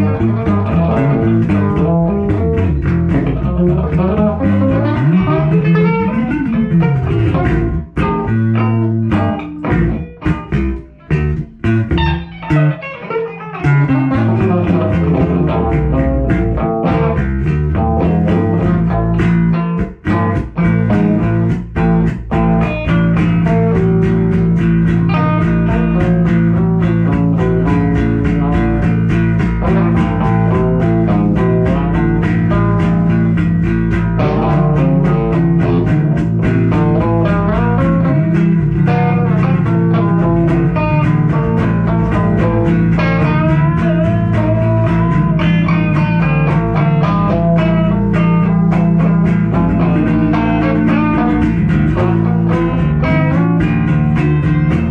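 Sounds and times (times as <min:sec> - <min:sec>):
bass guitar line: 0:00.0 - 0:54.9
plucked blues guitar: 0:00.0 - 0:54.9.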